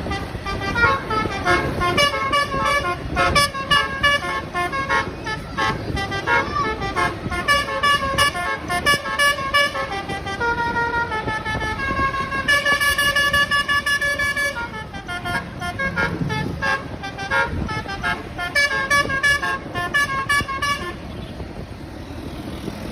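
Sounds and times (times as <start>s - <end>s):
multi-tone bus air horns playing tune: 0.0s - 21.4s
low engine and traffic rumble: 0.0s - 22.9s.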